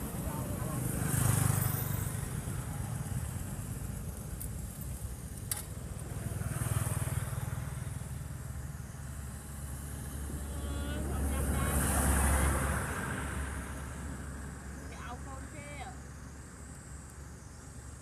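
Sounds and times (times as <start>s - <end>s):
passing road vehicles: 0.0s - 18.0s.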